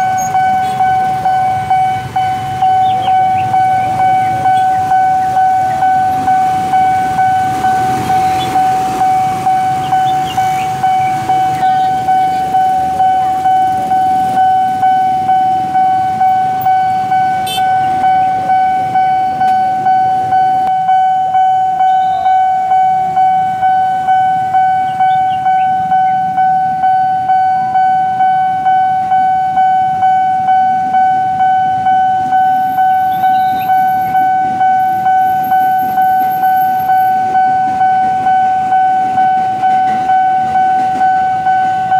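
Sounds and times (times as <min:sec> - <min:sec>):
electric train passing: 0:00.0 - 0:21.6, 0:22.3 - 0:41.9
idling motorcycle and bus engines: 0:00.0 - 0:41.9
level crossing warning bell: 0:00.0 - 0:41.9.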